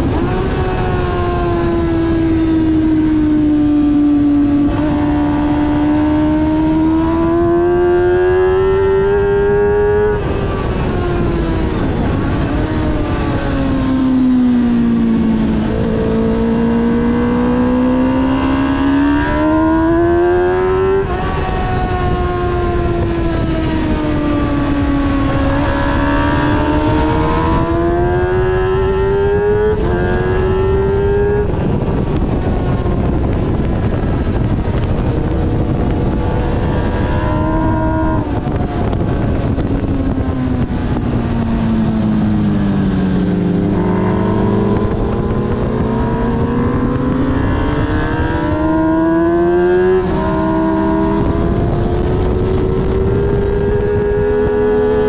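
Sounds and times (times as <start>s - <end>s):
motorcycle engine: 0.0s - 55.0s
wind rush: 0.0s - 55.0s.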